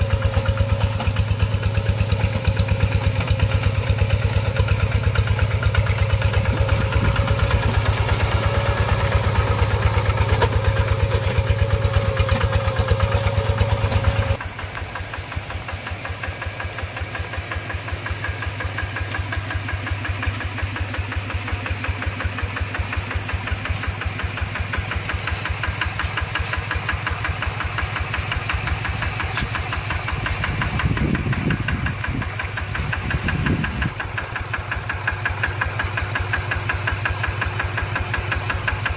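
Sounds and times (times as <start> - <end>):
diesel hand tractor engine knocking: 0.0 - 38.9.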